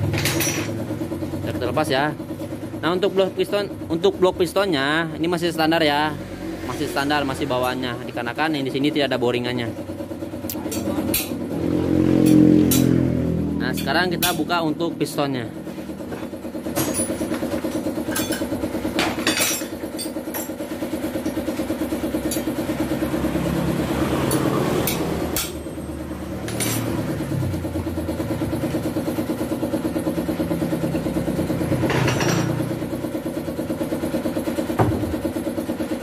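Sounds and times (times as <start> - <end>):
engine idling: 0.0 - 12.0, 12.6 - 36.0.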